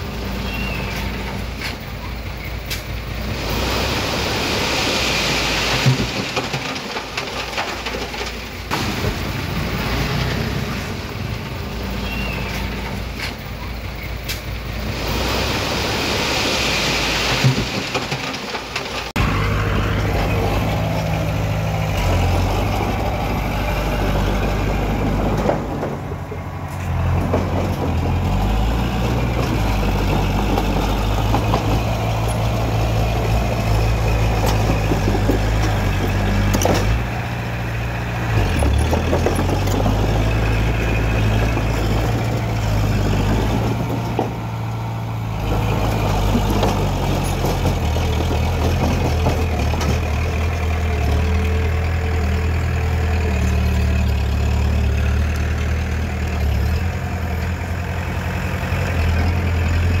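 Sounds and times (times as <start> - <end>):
heavy diesel engine running: 0.0 - 60.0.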